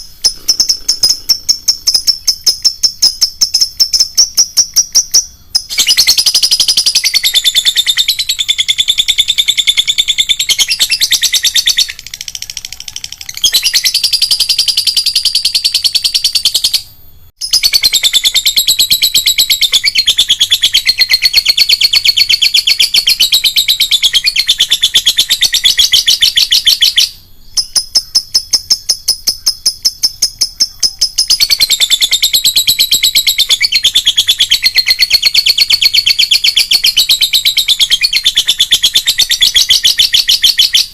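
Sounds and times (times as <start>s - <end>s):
lovebird chattering: 0.0s - 16.8s, 17.4s - 40.9s.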